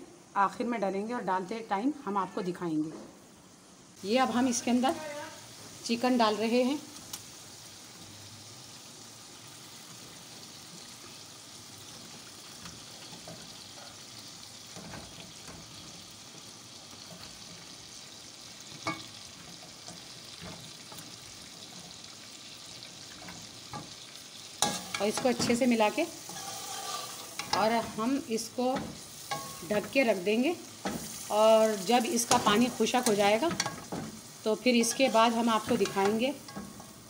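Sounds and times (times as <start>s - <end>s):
spices sizzling in oil: 3.4s - 37.0s.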